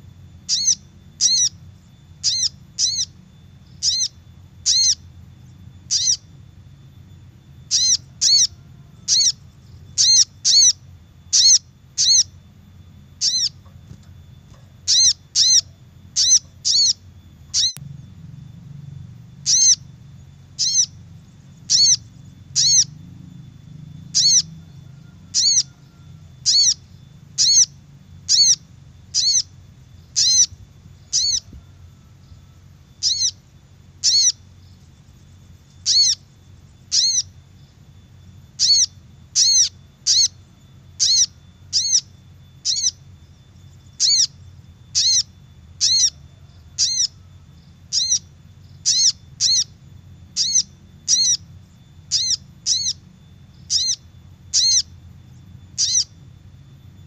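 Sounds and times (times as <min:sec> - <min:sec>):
high bird call notes: 0:00.0 - 0:56.2
faint low hum: 0:00.0 - 0:57.0.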